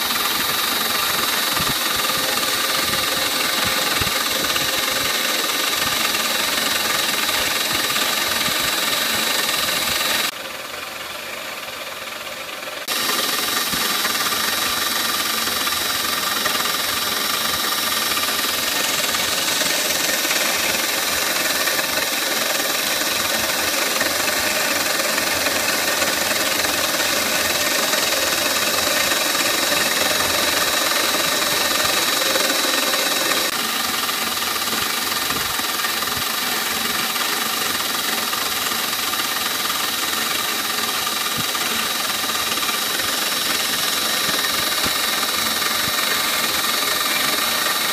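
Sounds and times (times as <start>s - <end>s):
hiss of cutting plastic: 0.0s - 10.4s, 12.8s - 47.9s
milling spindle high whine: 0.0s - 11.0s, 12.8s - 47.9s.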